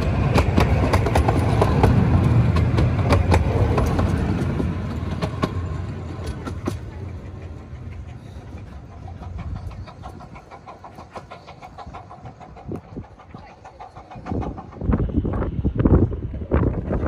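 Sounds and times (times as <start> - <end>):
train wheels rumbling: 0.0 - 17.0
wheels clicking on rails: 0.0 - 17.0.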